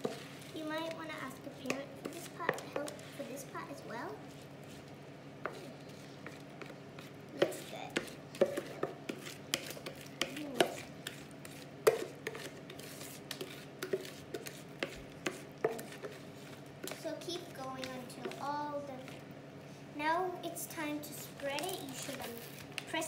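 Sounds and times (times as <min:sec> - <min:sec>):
wooden spoon scraping plastic bowl: 0:00.0 - 0:19.2, 0:21.2 - 0:22.9
steady low hum: 0:00.0 - 0:23.0.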